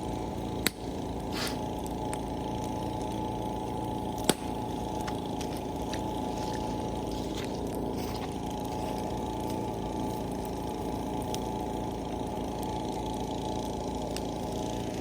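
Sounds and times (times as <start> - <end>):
steady low drone: 0.0 - 15.0
bonfire crackling pops: 0.4 - 13.2, 14.0 - 14.5.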